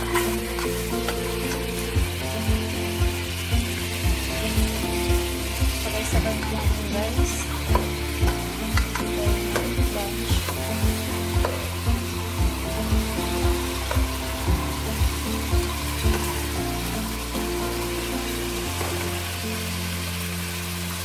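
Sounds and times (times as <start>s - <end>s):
background music with steady beat: 0.0s - 21.0s
chicken sizzling in a pot: 0.0s - 21.0s.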